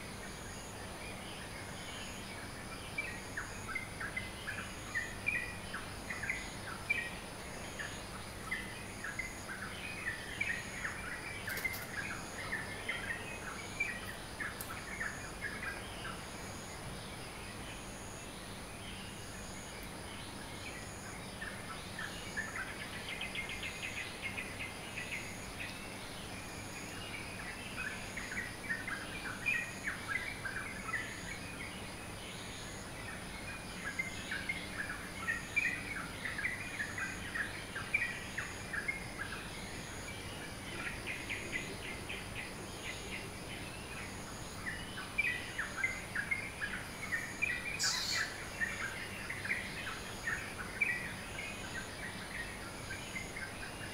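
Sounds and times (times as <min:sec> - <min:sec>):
faint high-pitched whine: 0:00.0 - 0:53.9
songbirds chirping and twittering: 0:00.0 - 0:53.9.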